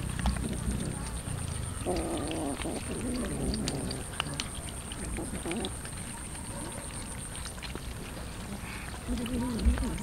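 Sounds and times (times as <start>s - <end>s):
cats chewing wetly: 0.0s - 10.0s.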